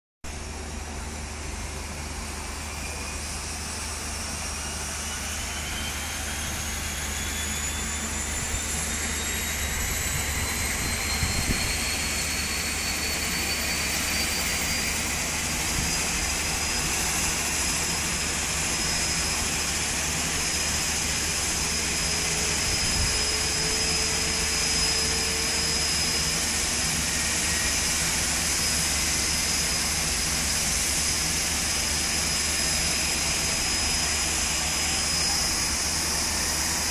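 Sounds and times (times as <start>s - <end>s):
turboprop engine whine: 0.2s - 36.9s
engine rushing noise: 0.3s - 36.9s.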